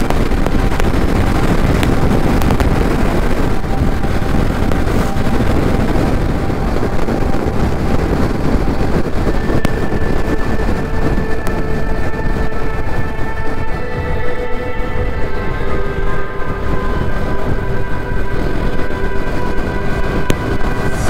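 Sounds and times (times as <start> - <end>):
steady tone: 0.0 - 21.0
wind rushing over microphone: 0.0 - 21.0.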